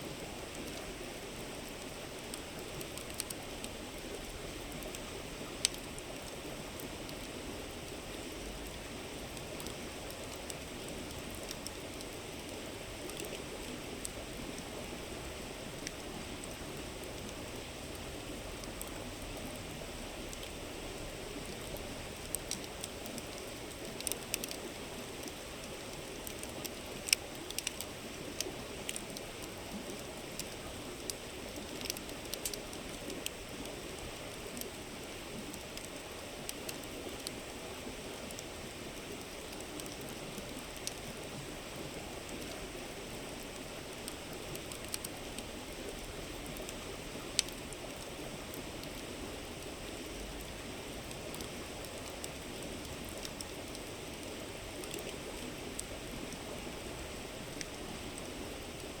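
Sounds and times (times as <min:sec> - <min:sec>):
campfire crackling and popping: 0:00.2 - 0:59.0.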